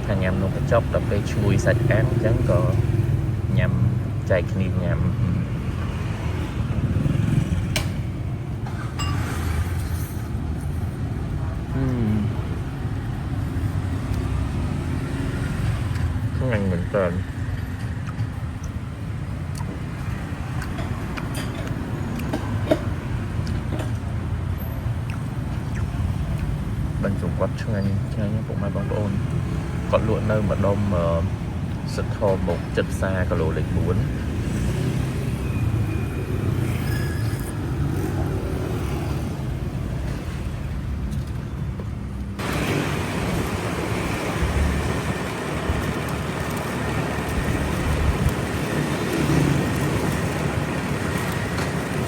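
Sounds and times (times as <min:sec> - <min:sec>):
road noise: 0:00.0 - 0:52.0
street traffic rumble: 0:00.0 - 0:52.0.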